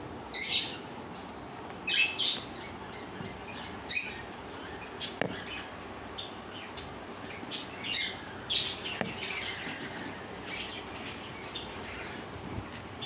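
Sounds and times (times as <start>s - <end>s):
cockatiels calling: 1.8s - 12.3s.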